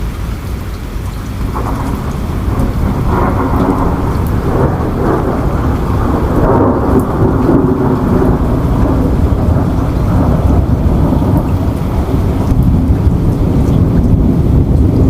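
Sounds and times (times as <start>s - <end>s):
heavy rain: 0.0s - 15.0s
deep low rumble: 1.3s - 15.0s.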